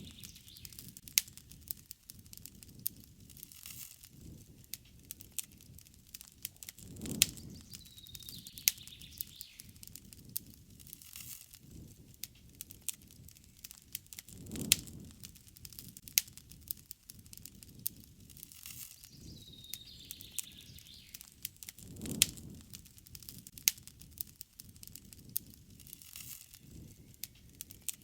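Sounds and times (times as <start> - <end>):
campfire crackling and popping: 0.0 - 28.0
rush of flames: 0.0 - 28.0.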